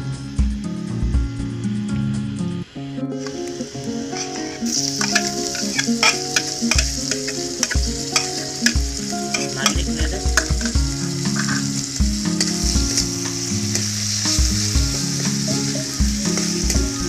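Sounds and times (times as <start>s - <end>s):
background music with a beat: 0.0s - 17.0s
onions sizzling in a wok: 0.0s - 17.0s
spatula turning food: 3.2s - 17.0s.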